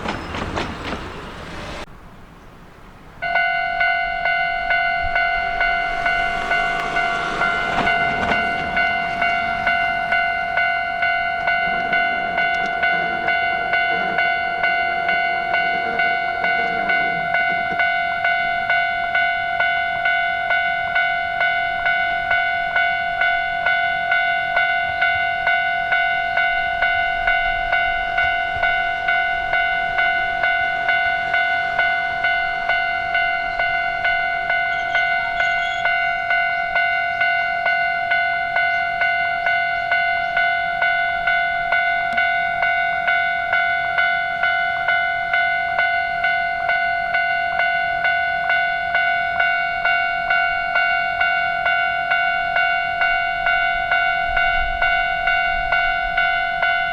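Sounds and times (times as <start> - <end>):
level crossing warning bell: 0.0 - 1.9, 3.2 - 56.9.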